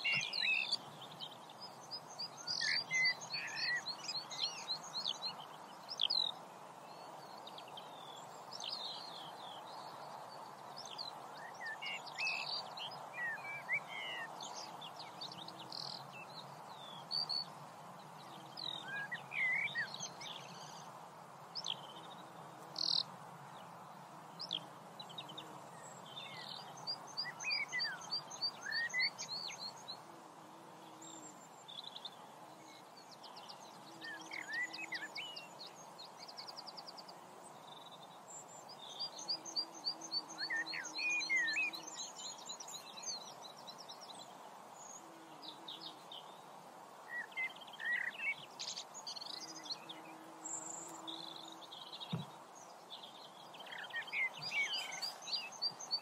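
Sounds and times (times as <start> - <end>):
songbirds singing: 0.0 - 56.0
steady background hiss: 0.0 - 56.0.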